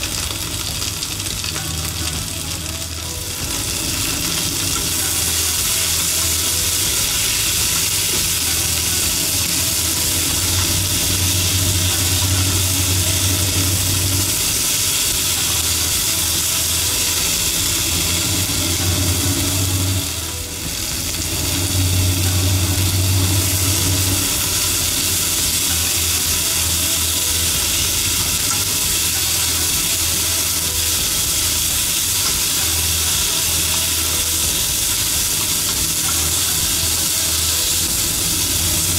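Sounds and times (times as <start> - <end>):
low hum: 0.0 - 38.9
peppers sizzling in a frying pan: 0.0 - 38.9.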